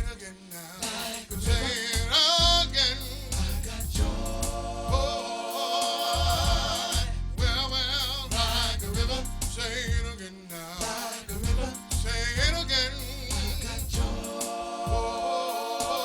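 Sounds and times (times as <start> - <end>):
gospel band playing: 0.0 - 16.0
lead voice singing long notes: 0.0 - 16.0.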